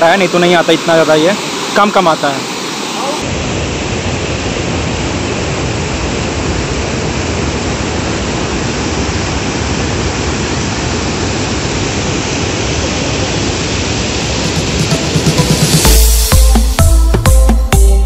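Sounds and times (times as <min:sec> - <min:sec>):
waterfall rushing over rocks: 0:00.0 - 0:15.4.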